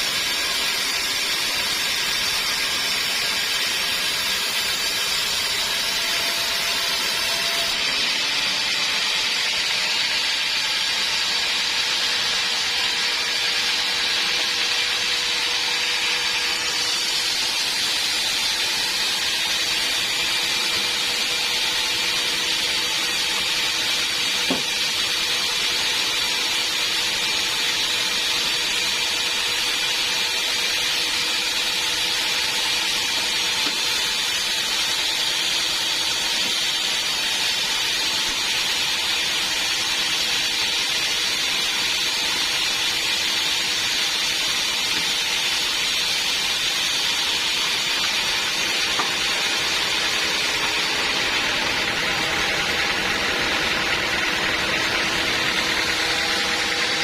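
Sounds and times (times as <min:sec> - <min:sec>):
bandsaw cutting wood: 0:00.0 - 0:57.0.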